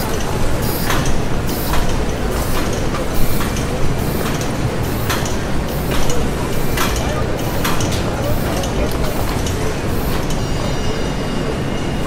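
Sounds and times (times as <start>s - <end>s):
factory machinery rumble: 0.0s - 12.0s.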